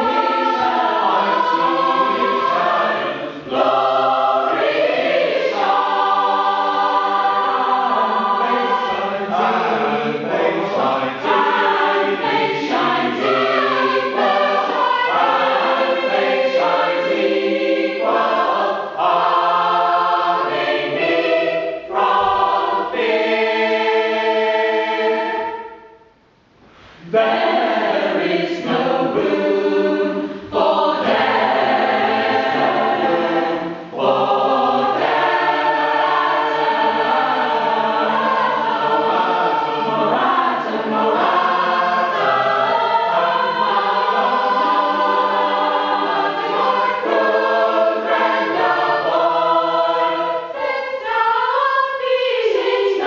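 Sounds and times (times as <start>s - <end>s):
mixed choir singing: 0.0s - 26.0s, 26.8s - 53.0s.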